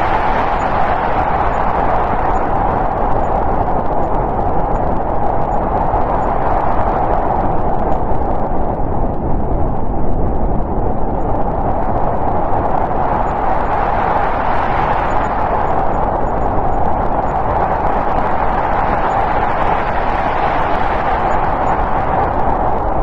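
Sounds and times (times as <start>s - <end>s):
snowstorm wind blowing: 0.0s - 23.0s.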